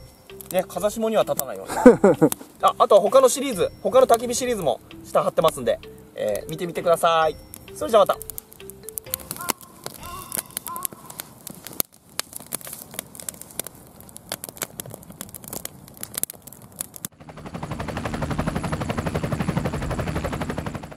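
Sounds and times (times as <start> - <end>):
campfire crackling and popping: 0.0 - 20.8.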